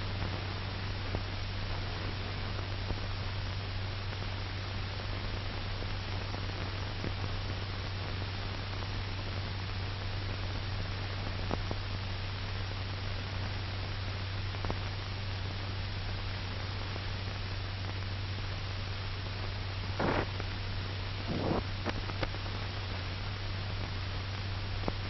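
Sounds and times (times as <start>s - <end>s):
film soundtrack hiss: 0.0s - 25.0s
low mains hum: 0.0s - 25.0s.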